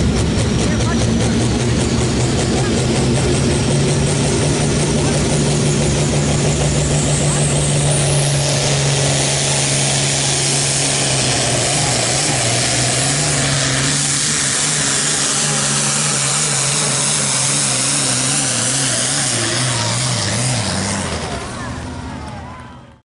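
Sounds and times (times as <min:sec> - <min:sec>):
diesel tractor engine drone: 0:00.0 - 0:23.0.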